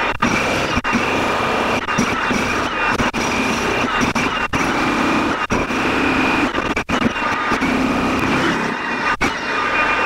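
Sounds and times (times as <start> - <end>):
demolition hammer chiselling rock: 0.1 - 8.7.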